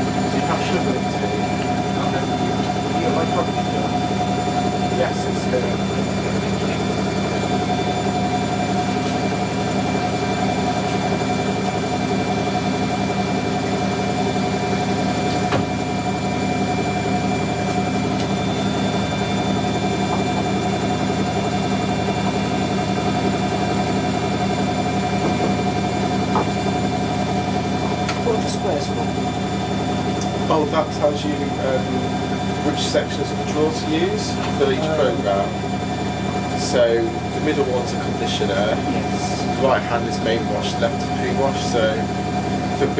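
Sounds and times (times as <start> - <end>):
washing machine running: 0.0 - 42.9.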